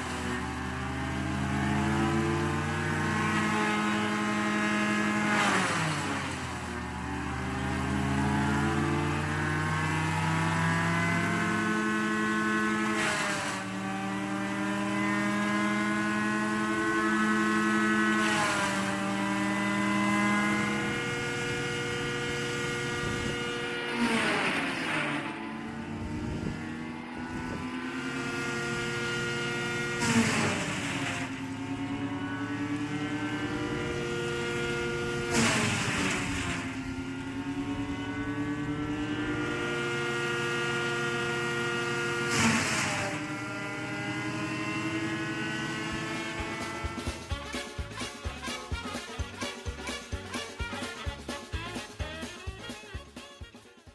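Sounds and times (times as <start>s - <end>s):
wood chipper crackling: 0.0s - 52.8s
chipper engine running: 0.0s - 53.9s.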